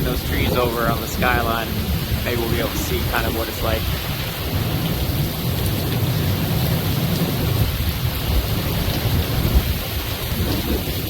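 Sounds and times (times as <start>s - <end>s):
gusting wind rumble: 0.0s - 11.0s
heavy rain: 0.0s - 11.0s.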